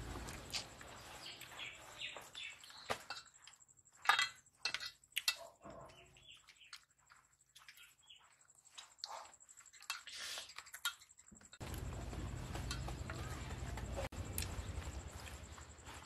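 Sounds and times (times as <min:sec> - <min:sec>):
small birds chirping: 0:00.0 - 0:04.0, 0:05.1 - 0:16.0.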